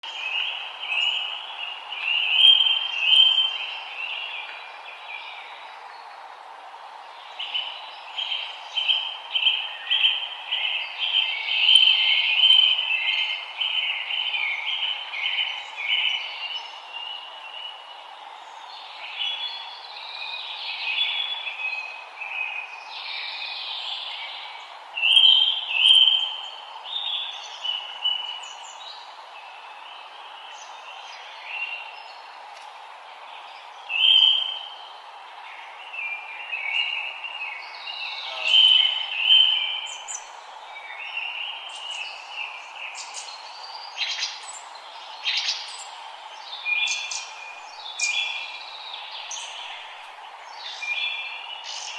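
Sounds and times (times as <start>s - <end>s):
songbirds singing and chirping: 0.0s - 51.9s
steady background hiss: 0.0s - 51.9s.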